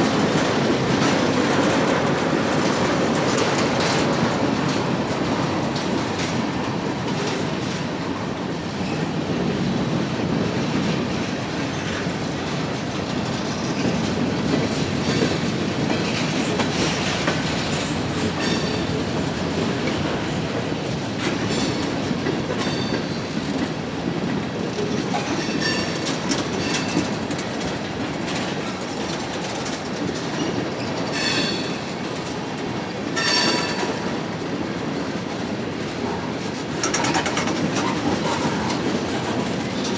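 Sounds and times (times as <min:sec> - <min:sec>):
wheels clacking over rail joints: 0:00.0 - 0:39.9.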